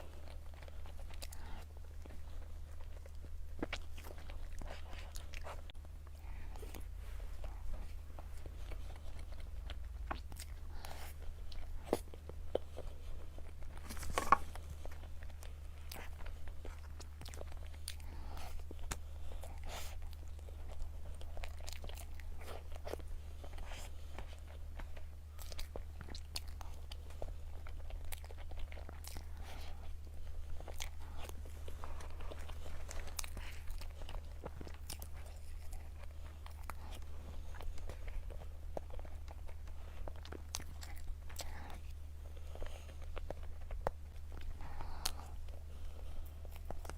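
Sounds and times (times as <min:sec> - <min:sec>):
low electrical hum: 0:00.0 - 0:46.9
wet chewing and mouth smacks: 0:00.0 - 0:46.9.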